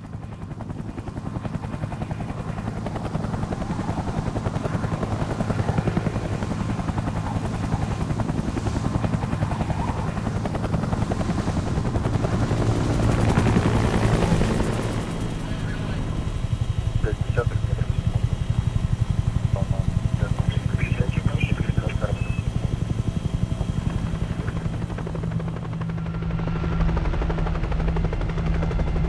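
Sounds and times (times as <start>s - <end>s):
helicopter rotor beat: 0.0s - 29.0s
low turbine hum: 0.0s - 29.0s.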